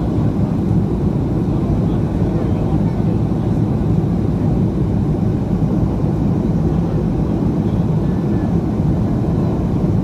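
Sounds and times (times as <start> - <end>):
jet engine low rumble: 0.0 - 10.0.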